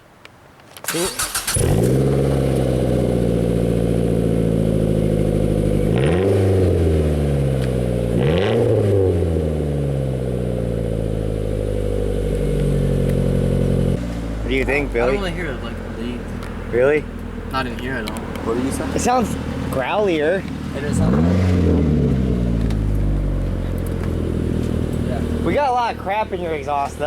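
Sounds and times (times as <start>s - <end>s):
car engine starting and idling: 0.8s - 27.0s
engine revving: 0.9s - 26.7s.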